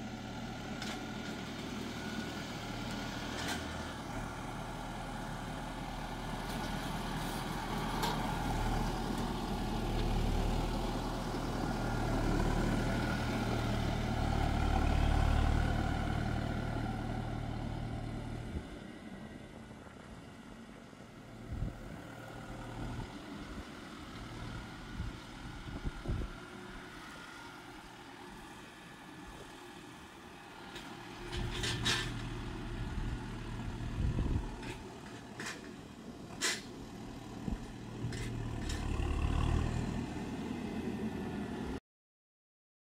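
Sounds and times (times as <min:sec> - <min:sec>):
tractor engines running: 0:00.0 - 0:41.8.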